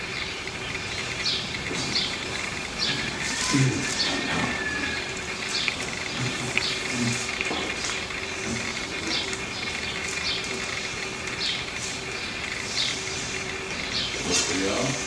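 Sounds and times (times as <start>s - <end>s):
faint hum: 0.0s - 15.0s
outdoor hiss: 0.0s - 15.0s.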